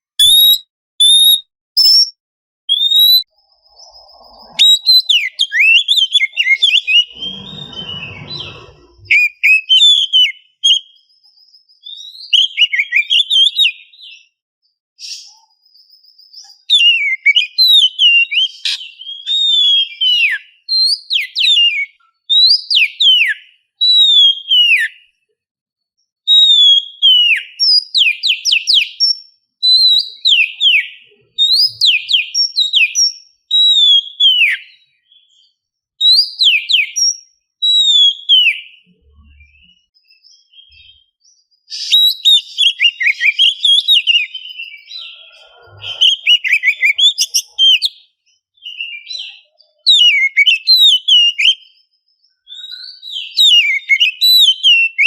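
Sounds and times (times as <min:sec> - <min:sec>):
bird singing whistled phrases: 0:00.2 - 0:14.3, 0:15.0 - 0:25.1, 0:26.3 - 0:55.0.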